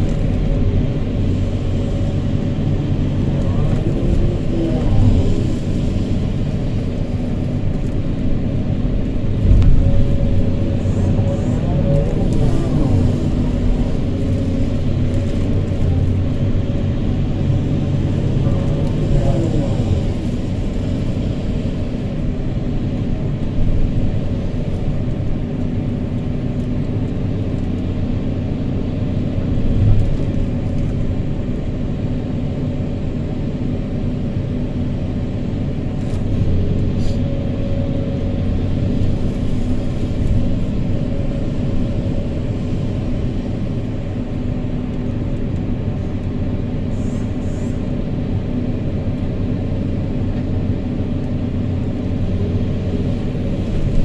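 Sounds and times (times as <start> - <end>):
excavator diesel engine working: 0.0 - 54.0.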